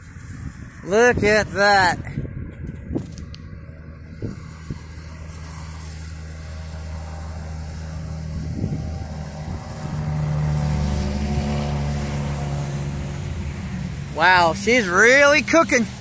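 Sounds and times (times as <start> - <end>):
vehicle engine running: 1.6 - 16.0.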